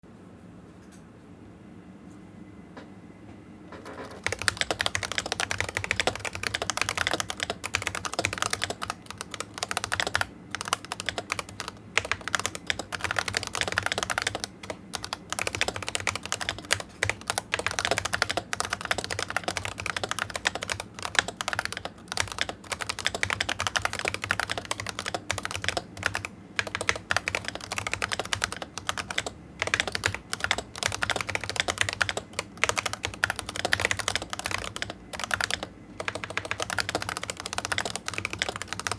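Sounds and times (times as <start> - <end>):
fast typing on keyboard: 3.8 - 38.9.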